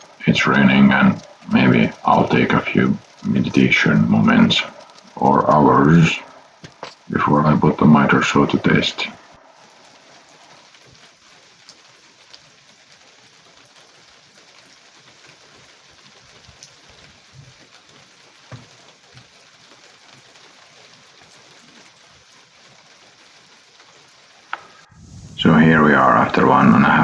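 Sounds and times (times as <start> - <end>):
raindrops knocking on surfaces: 0.0 - 27.0
steady rain: 0.0 - 27.0.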